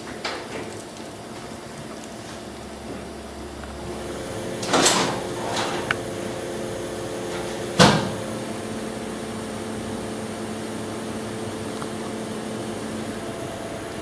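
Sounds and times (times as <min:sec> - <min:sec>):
workshop machinery hum: 0:00.0 - 0:14.0.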